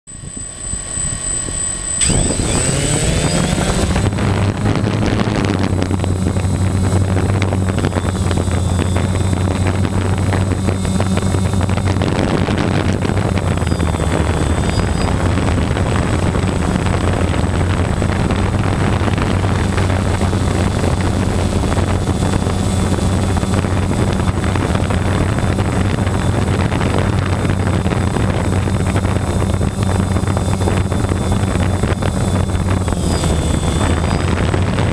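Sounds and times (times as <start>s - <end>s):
drone propellers buzzing: 0.1s - 34.9s.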